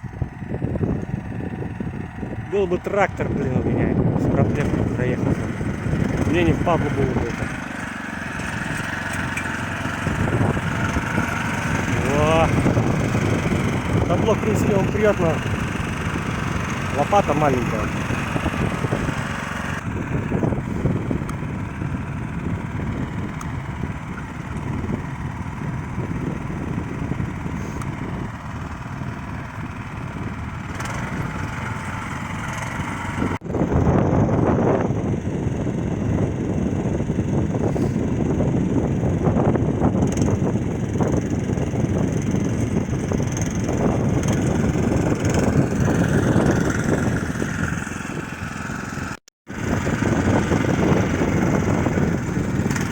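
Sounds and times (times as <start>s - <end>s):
walk-behind tractor engine running: 0.0s - 52.9s.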